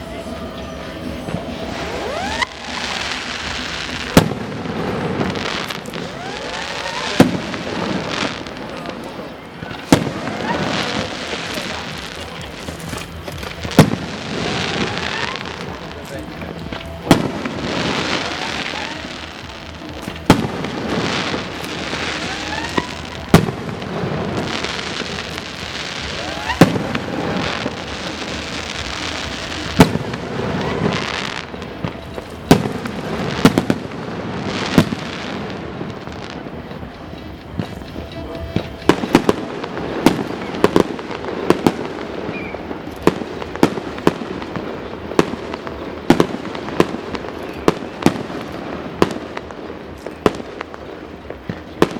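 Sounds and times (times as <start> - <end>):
rising firework whistles: 0.0 - 49.1
fireworks bursting with loud bangs: 0.0 - 51.9
fireworks crackling: 0.0 - 51.9.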